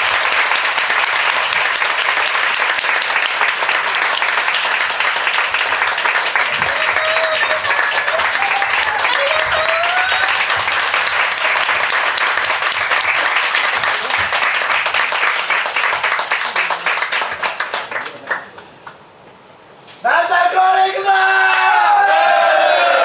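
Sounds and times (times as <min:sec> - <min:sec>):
audience applauding: 0:00.0 - 0:19.1.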